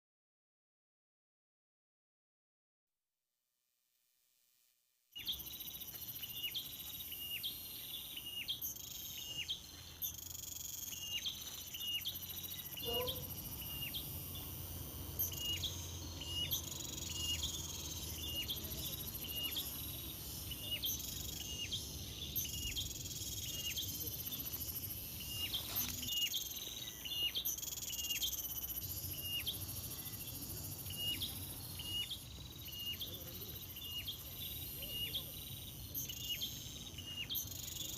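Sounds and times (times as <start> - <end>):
bird chirping: 5.2 - 37.9
insects buzzing: 5.2 - 37.9.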